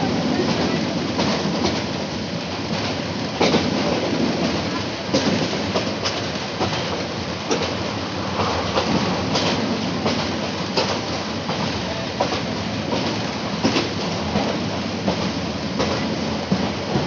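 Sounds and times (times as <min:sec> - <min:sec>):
rush of wheel and rail noise: 0:00.0 - 0:17.0.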